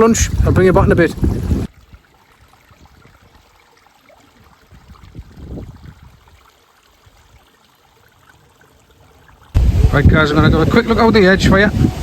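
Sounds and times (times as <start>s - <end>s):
stream trickling over rock: 0.0s - 12.0s.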